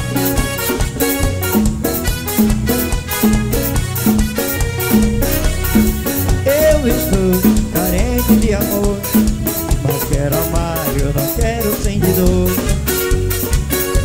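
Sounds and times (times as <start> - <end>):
brass melody: 0.0 - 14.0
drum kit and percussion: 0.0 - 14.0.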